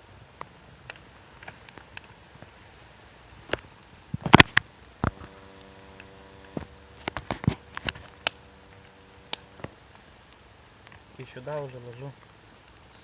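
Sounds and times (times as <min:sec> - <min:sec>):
steady low buzz: 0:02.2 - 0:12.6.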